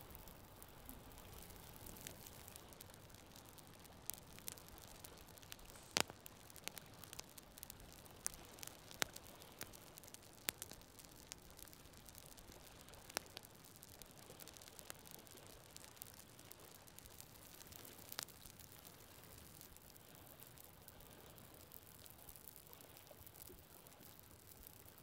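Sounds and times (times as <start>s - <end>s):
campfire crackling and popping: 0.0s - 25.0s
faint steady hiss: 0.0s - 25.0s.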